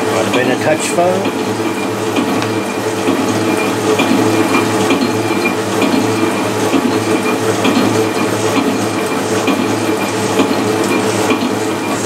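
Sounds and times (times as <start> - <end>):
machine tool humming: 0.0 - 12.0.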